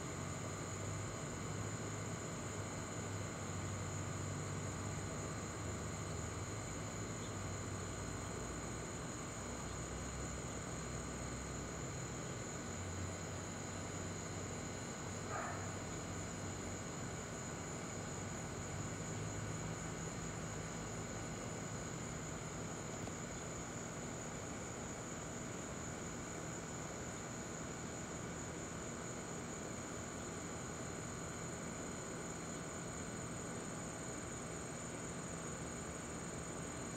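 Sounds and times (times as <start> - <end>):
crickets trilling: 0.0 - 36.9.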